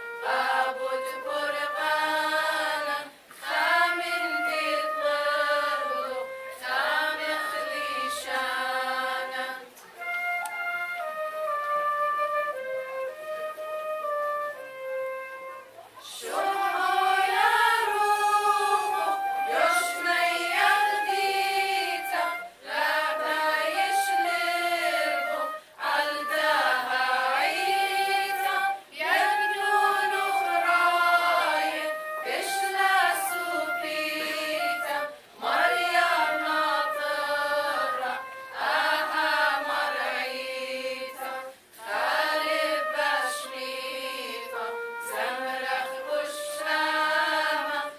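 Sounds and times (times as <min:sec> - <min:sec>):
women's choir singing: 0:00.0 - 0:09.9, 0:16.0 - 0:47.9
flute playing: 0:00.0 - 0:47.9.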